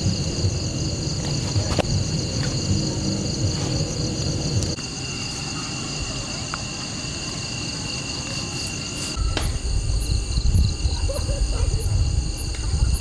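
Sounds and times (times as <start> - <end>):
insects chirping trill: 0.0 - 13.0.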